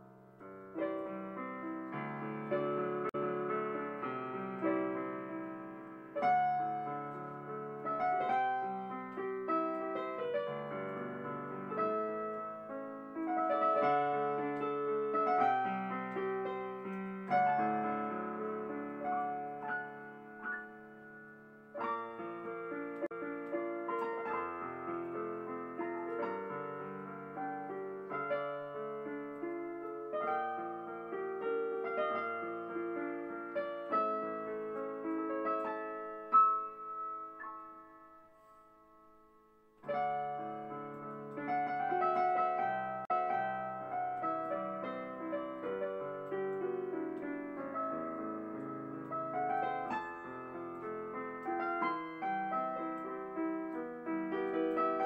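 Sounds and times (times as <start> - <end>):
gentle solo piano: 0.0 - 55.0.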